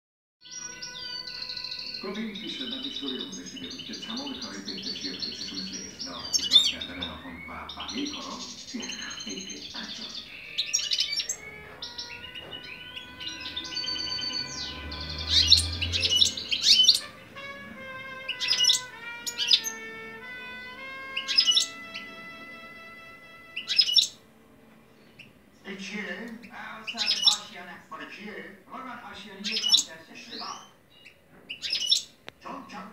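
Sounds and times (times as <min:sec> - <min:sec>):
finches chirping and twittering: 0:00.4 - 0:24.2, 0:24.9 - 0:27.8, 0:28.8 - 0:32.9.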